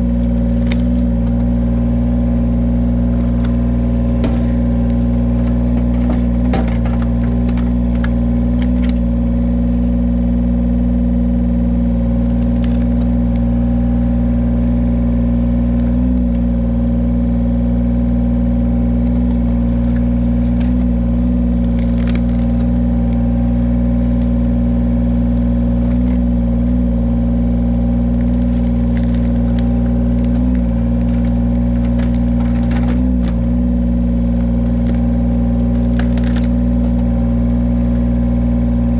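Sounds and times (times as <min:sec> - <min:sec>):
wood cracking: 0:00.0 - 0:09.6, 0:11.8 - 0:13.8, 0:18.4 - 0:38.0
log splitter engine running: 0:00.0 - 0:38.9.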